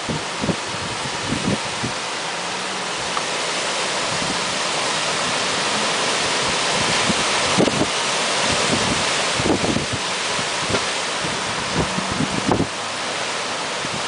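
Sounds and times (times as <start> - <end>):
storm wind rushing through trees: 0.0 - 14.0
wind gusts thumping on microphone: 0.0 - 14.0.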